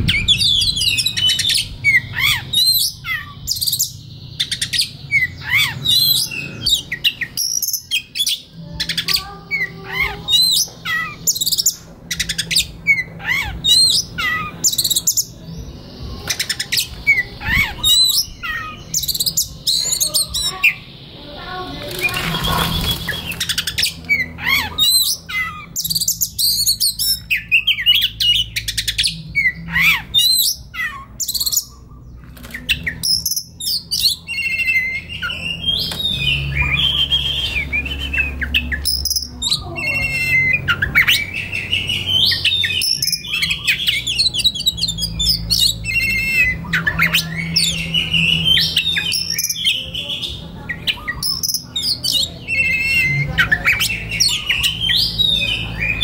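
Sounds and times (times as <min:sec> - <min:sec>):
magpie robin singing: 0:00.0 - 0:56.0.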